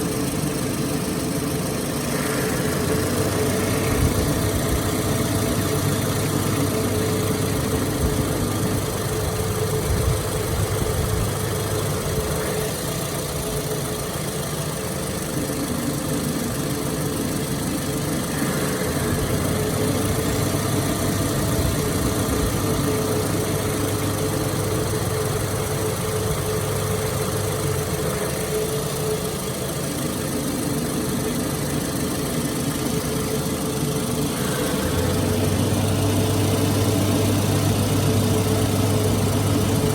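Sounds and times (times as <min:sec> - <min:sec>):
car engine idling: 0:00.0 - 0:39.9
constant tone: 0:00.0 - 0:39.9.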